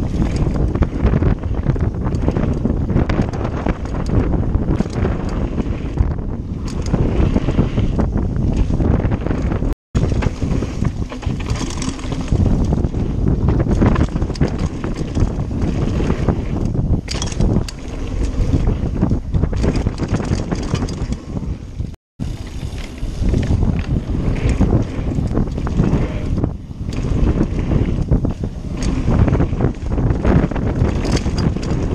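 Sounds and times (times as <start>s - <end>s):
bike rattling clicks and knocks: 0.0s - 31.9s
bike tyre rumble: 0.0s - 31.9s
wind buffeting microphone: 0.0s - 31.9s.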